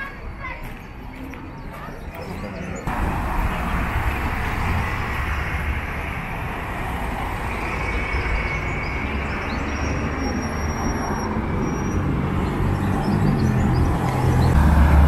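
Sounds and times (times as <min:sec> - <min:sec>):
passing cars rumble and hiss: 0:02.9 - 0:15.0.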